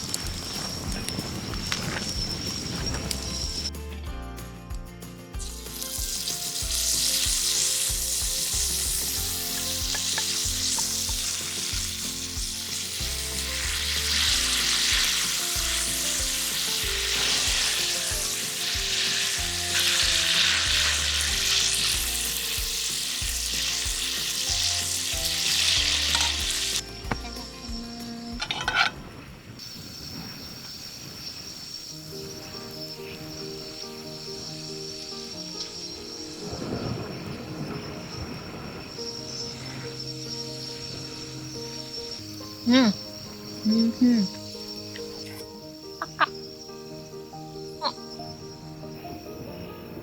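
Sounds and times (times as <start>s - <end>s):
food sizzling in a pan: 0.0s - 3.7s, 5.4s - 50.0s.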